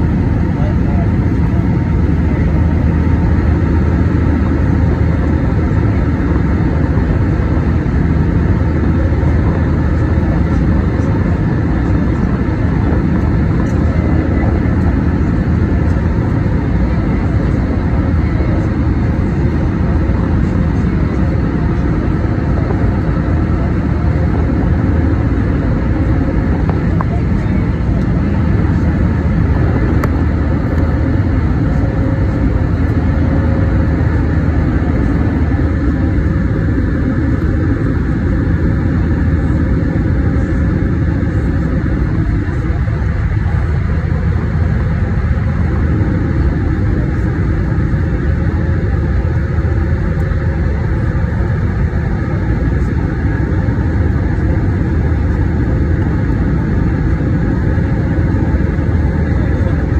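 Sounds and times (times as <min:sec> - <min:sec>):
faint steady hum: 0:00.0 - 0:59.9
jet engines and airflow drone: 0:00.0 - 0:59.9.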